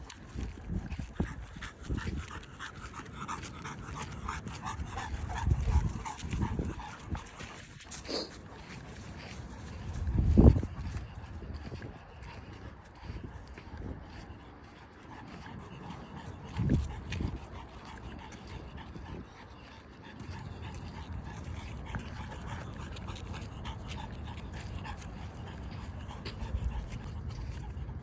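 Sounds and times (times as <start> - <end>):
panting breaths: 0.0 - 28.0.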